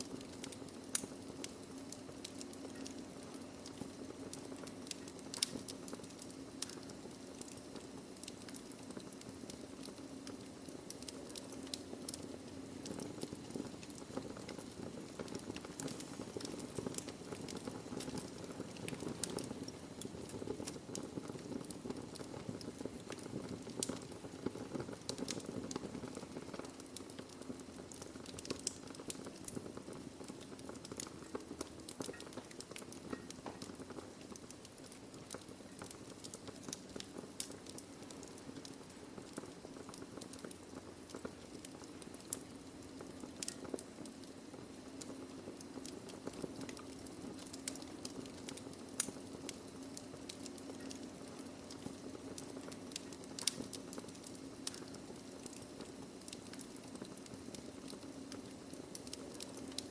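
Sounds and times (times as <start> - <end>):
fire flames hissing: 0.0 - 59.9
logs crackling and popping: 0.0 - 59.9.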